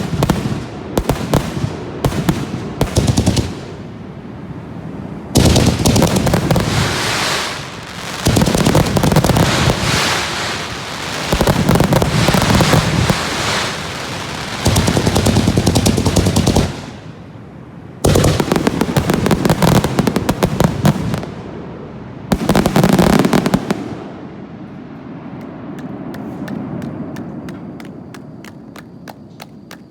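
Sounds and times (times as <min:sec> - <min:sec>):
fireworks bangs and crackling: 0:00.0 - 0:24.5.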